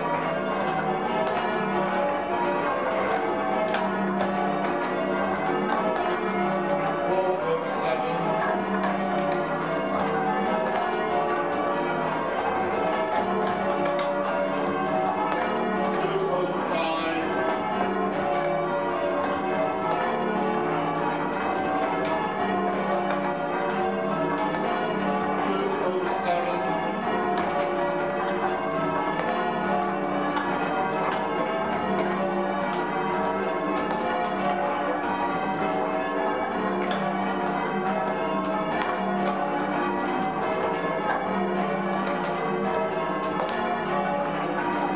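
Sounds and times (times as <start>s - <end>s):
church bells ringing: 0.0s - 44.9s.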